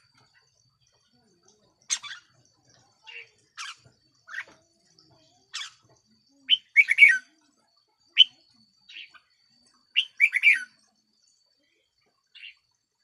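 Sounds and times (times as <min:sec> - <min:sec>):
bird singing: 0:00.0 - 0:07.4, 0:08.0 - 0:12.7.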